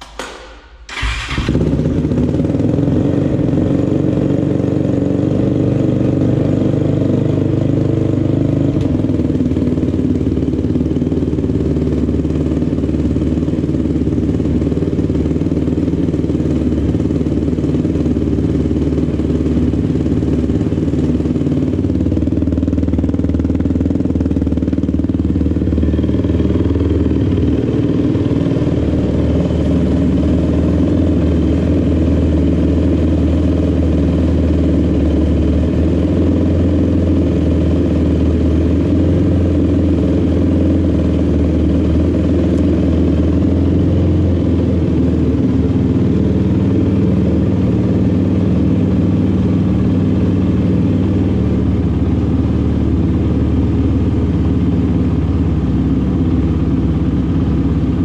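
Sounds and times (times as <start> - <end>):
atv engine idling: 0.0 - 58.0.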